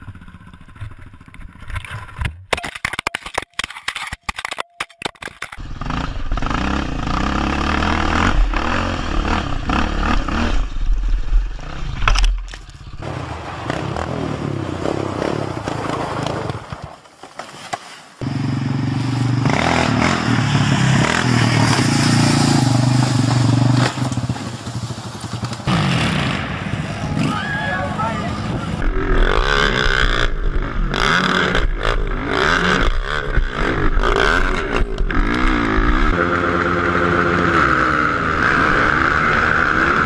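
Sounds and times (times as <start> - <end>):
quad bike engines revving: 5.6 - 12.2, 12.8 - 16.7, 18.2 - 40.0.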